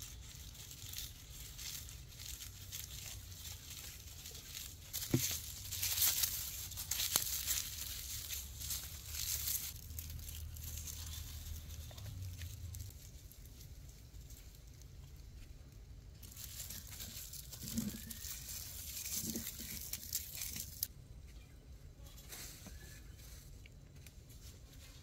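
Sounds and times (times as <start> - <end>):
rustling and crinkling: 0.0 - 25.0.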